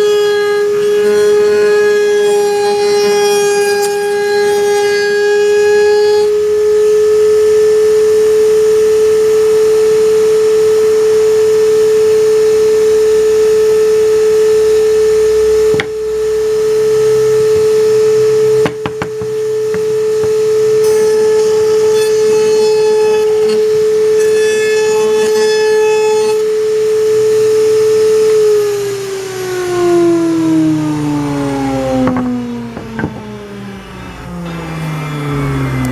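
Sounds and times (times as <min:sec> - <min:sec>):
power tool motor humming: 0:00.0 - 0:35.9
motor spinning down: 0:06.6 - 0:35.9.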